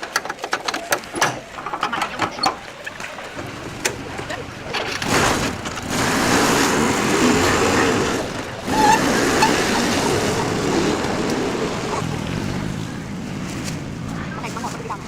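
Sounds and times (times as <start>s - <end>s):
market hubbub: 0.0s - 15.0s.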